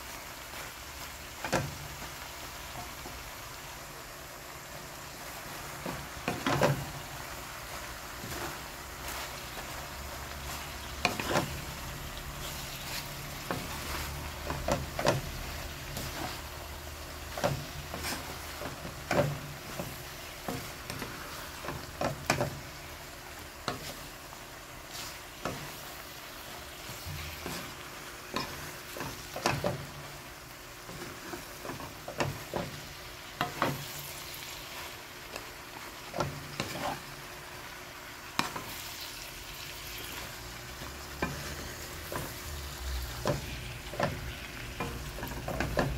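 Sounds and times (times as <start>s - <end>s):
food sizzling in a frying pan: 0.0s - 45.9s
spatula knocking and scraping pan: 1.4s - 2.1s, 5.3s - 22.9s, 23.5s - 24.1s, 24.9s - 37.3s, 38.3s - 38.9s, 39.8s - 45.9s.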